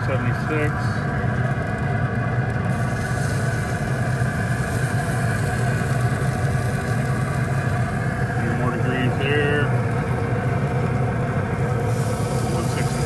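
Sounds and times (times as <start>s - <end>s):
grill fan humming: 0.0s - 13.0s.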